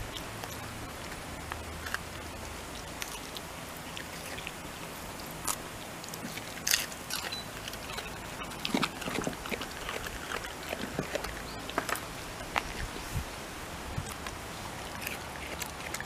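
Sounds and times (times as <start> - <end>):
dog chewing leaves: 0.0 - 16.0.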